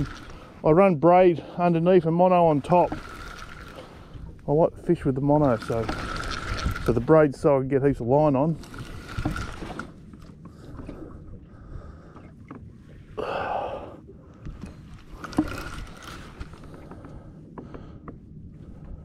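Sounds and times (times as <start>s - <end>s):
water noise: 0.0s - 19.0s
wind: 0.0s - 19.0s.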